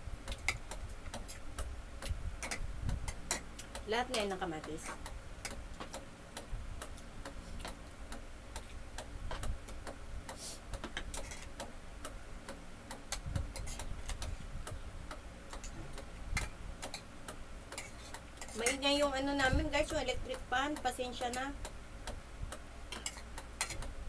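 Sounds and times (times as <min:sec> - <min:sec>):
electric pan humming: 0:00.0 - 0:24.0.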